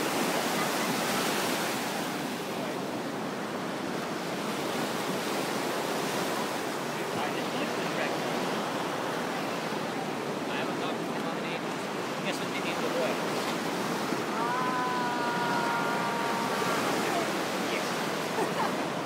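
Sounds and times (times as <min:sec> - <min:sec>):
surf washing on shore: 0:00.0 - 0:19.0.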